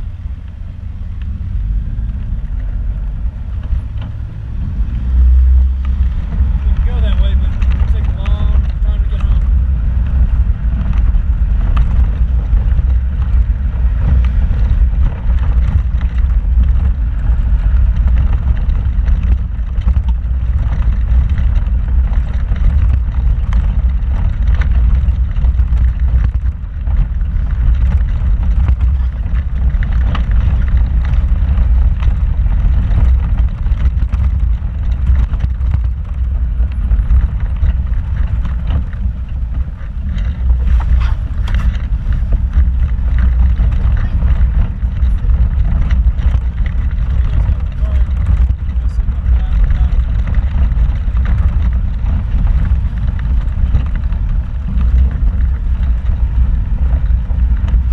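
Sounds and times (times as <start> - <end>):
vehicle low rumble: 0.0 - 57.9
knocks and rattles over rocks: 1.2 - 57.9.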